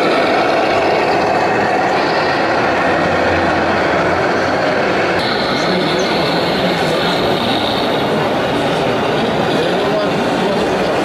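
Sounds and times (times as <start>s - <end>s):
busy hall din: 0.0s - 11.0s.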